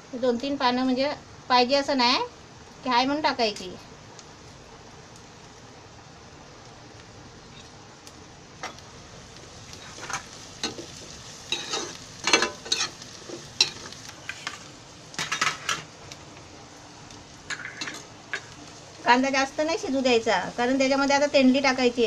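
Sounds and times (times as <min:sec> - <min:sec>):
onions sizzling in oil: 0:00.0 - 0:22.0.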